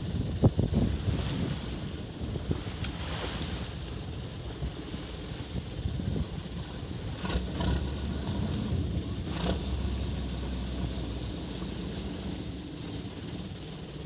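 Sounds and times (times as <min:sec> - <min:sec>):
boat engine rumble: 0:00.0 - 0:14.0
water rushing past hull: 0:00.0 - 0:14.0
wind buffeting microphone: 0:00.0 - 0:14.0.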